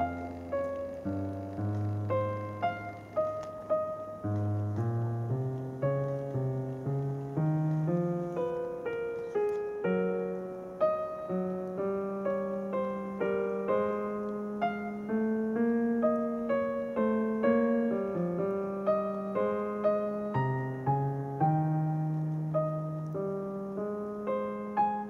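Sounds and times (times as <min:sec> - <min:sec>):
slow gentle piano music: 0:00.0 - 0:25.0.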